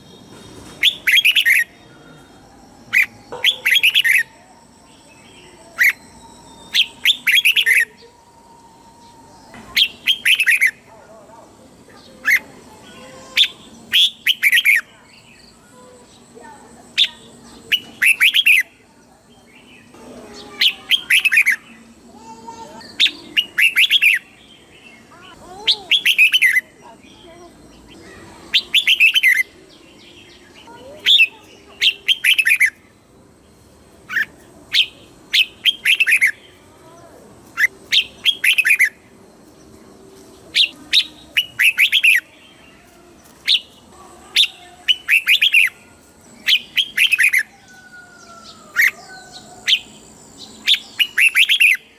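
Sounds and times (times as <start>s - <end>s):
bulbul singing: 0.0s - 51.9s
faint bird chirps: 0.0s - 51.9s.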